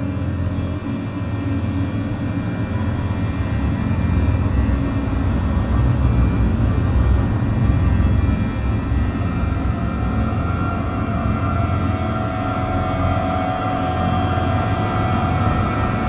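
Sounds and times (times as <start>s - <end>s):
dark ambient drone music: 0.0s - 16.0s.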